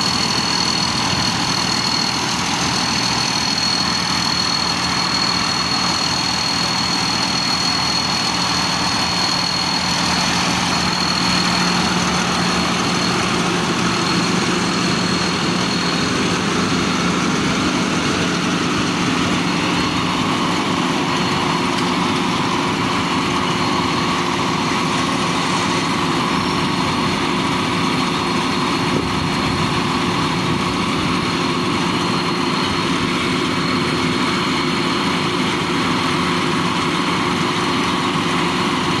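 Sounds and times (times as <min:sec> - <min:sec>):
high whine: 0:00.0 - 0:34.0
combine harvester engine running: 0:00.0 - 0:39.0.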